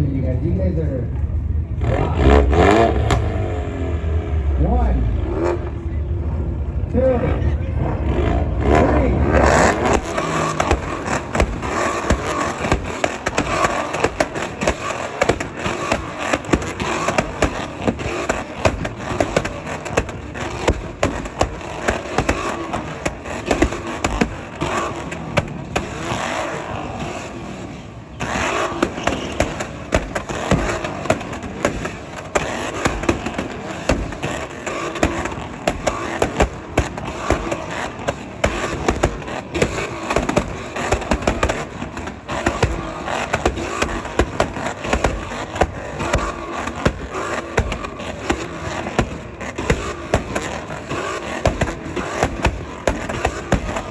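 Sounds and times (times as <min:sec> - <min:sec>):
car engines revving: 0:00.0 - 0:53.9
sharp exhaust pops: 0:01.8 - 0:04.0, 0:08.1 - 0:53.9.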